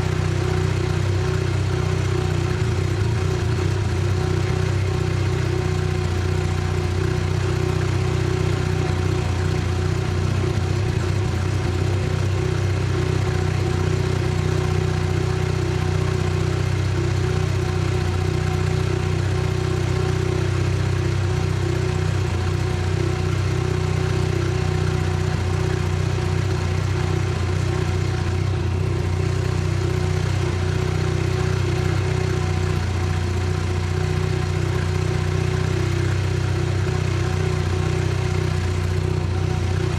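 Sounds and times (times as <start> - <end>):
rotary engine idling: 0.0 - 39.9.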